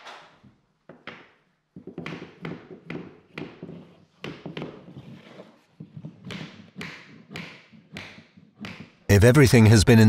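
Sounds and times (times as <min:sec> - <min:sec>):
hammer knocking on tapping block: 0:00.9 - 0:09.1.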